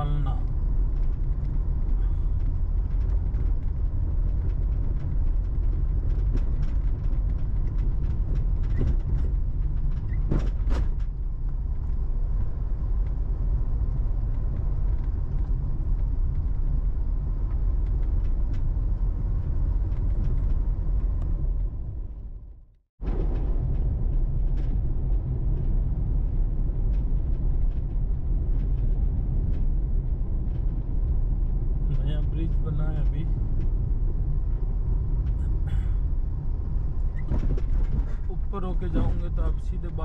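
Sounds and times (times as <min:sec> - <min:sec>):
diesel engine and road rumble: 0:00.0 - 0:40.0.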